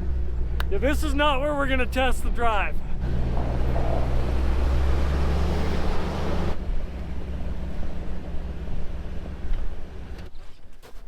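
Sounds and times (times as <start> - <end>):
vehicle engine droning: 0.0 - 10.3
road and wind noise: 0.0 - 10.8.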